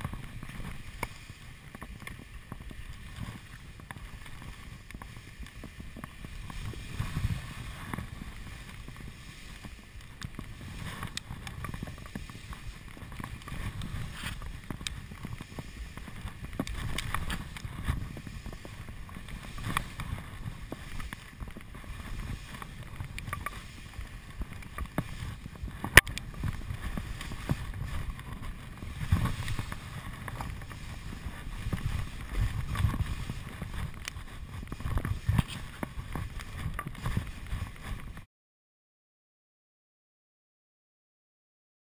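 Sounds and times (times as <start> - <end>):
wind buffeting microphone: 0.0 - 38.2
clicks of skis and poles: 0.0 - 38.3
skis sliding on snow: 0.0 - 38.3.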